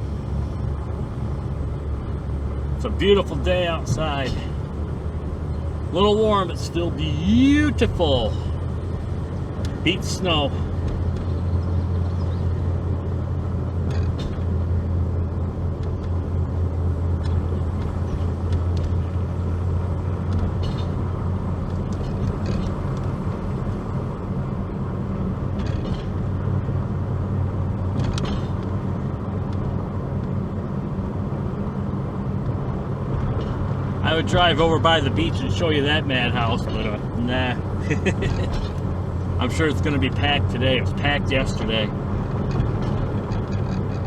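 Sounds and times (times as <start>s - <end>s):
car engine hum: 0.0s - 44.0s
road noise: 0.0s - 44.0s.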